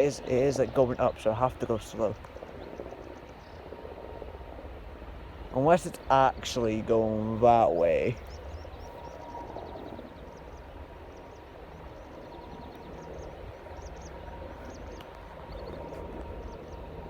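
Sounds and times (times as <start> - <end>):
small birds chirping: 0.0 - 4.0, 5.4 - 17.0
distant aircraft rumble: 0.0 - 17.0.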